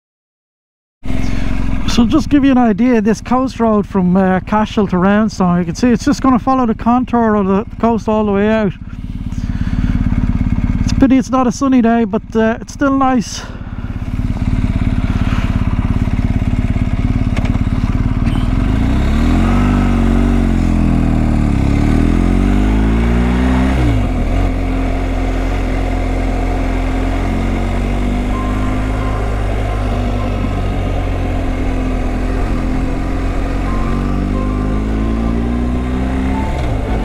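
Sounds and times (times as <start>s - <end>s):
motorcycle engine running: 1.0s - 37.0s.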